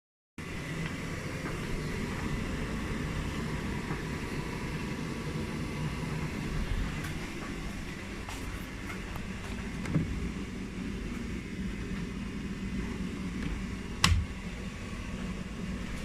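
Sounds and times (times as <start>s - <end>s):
washing machine drum rumble: 0.7s - 16.0s.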